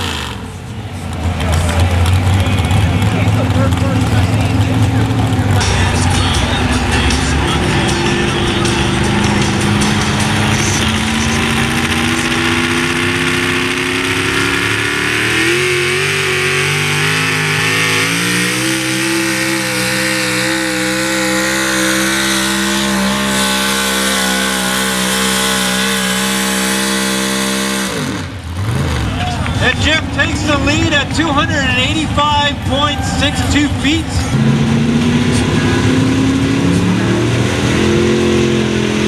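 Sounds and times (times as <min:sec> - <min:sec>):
pickup truck engine revving: 0:00.0 - 0:39.0.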